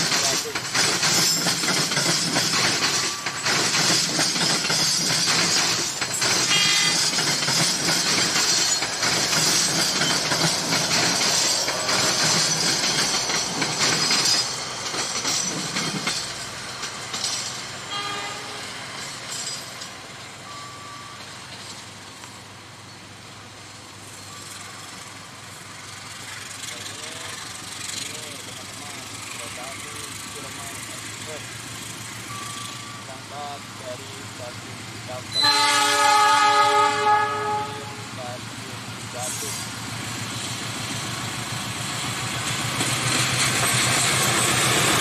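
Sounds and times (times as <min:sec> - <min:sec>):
diesel locomotive engine running: 0:00.0 - 0:45.0
train wheels on rails: 0:00.0 - 0:45.0.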